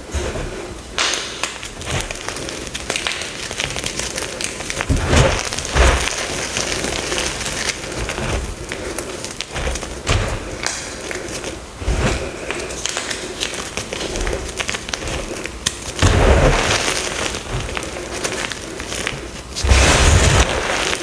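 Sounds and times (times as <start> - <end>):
chalk blocks crunching: 0.0 - 21.0.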